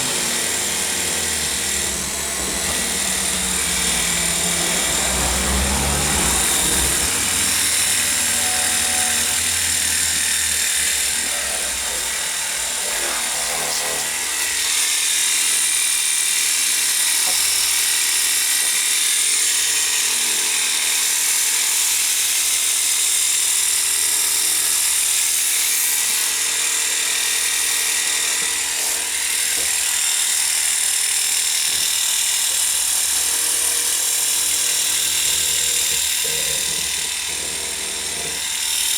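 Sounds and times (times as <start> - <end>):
electric pump motor whining: 0.0 - 38.9.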